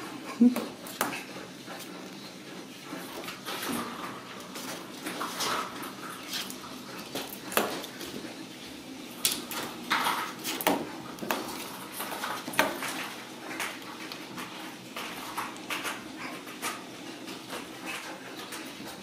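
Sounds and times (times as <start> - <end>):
paws scratching on wood: 0.7 - 8.5, 9.4 - 19.0.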